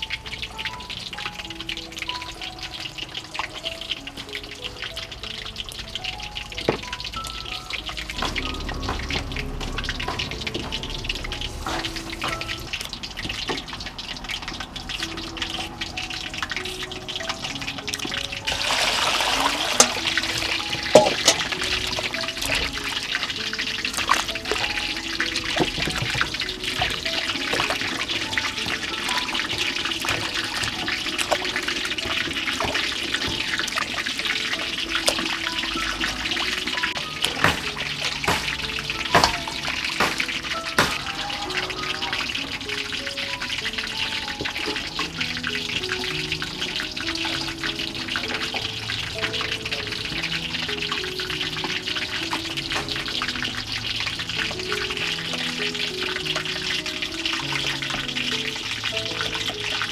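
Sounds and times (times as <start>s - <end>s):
background music: 0.0s - 59.9s
hands washing vegetables: 0.0s - 59.9s
water running into metal bowl: 0.0s - 59.9s.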